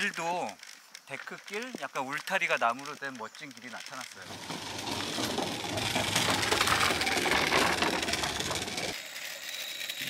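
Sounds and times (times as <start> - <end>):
scooter wheels rattling on boardwalk: 0.0 - 9.1.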